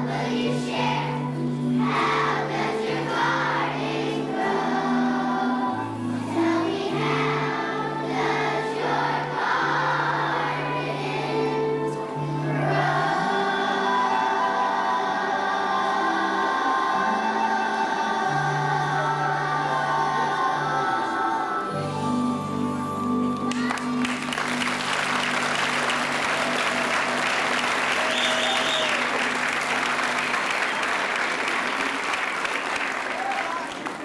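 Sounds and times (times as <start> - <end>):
children's choir singing: 0.0 - 34.0.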